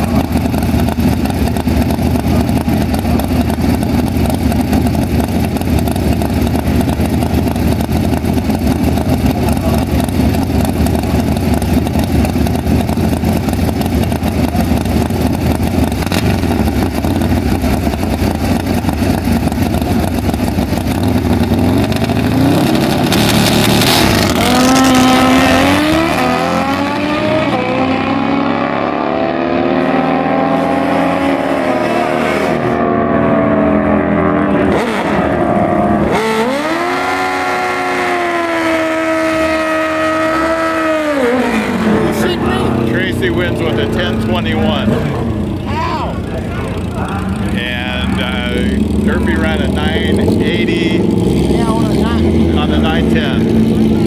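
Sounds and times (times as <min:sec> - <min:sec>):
motorcycle engines revving: 0:00.0 - 0:54.0
motorcycles accelerating through gears: 0:00.0 - 0:54.0.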